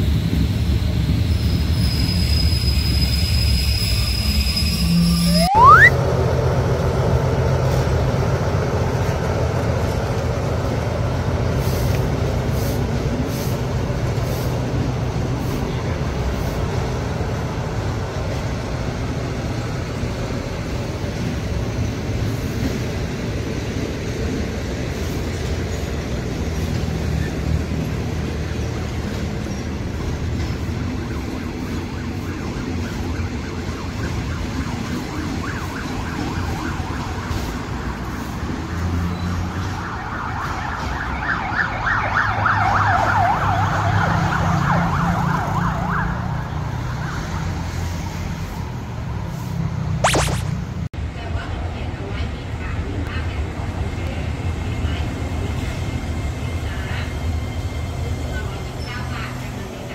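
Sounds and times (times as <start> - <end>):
train rumbling along: 0.0 - 39.8, 51.0 - 59.9.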